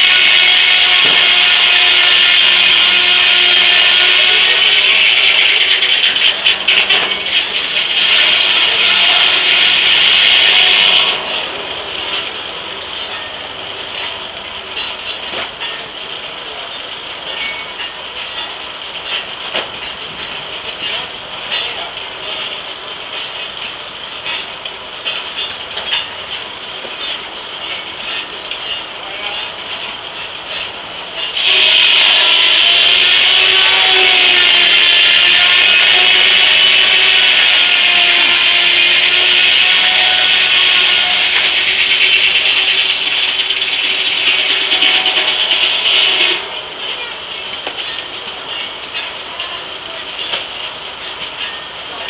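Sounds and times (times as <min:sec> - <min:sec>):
circular saw whining through wood: 0:00.0 - 0:16.6, 0:17.2 - 0:52.0
machinery clicking and rattling: 0:00.0 - 0:52.0.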